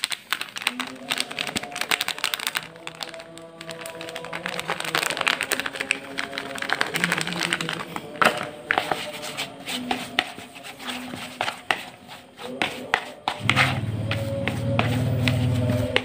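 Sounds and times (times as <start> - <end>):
hands mixing crumbly bait: 0.0 - 16.0
plastic crinkling: 0.0 - 16.0.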